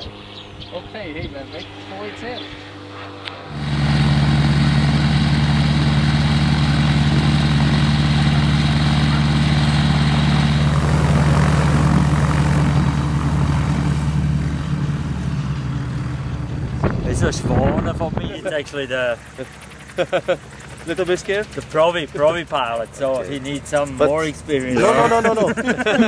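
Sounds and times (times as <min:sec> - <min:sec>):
gyroplane engines droning: 0:00.0 - 0:26.0
propeller wash rushing: 0:00.0 - 0:26.0.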